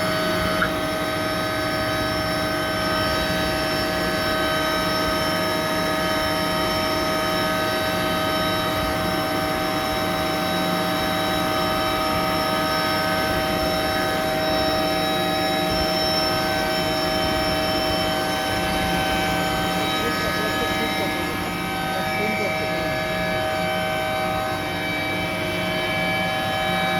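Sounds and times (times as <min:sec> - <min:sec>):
chiller mechanical drone: 0:00.0 - 0:26.9
constant whining tones: 0:00.0 - 0:26.9.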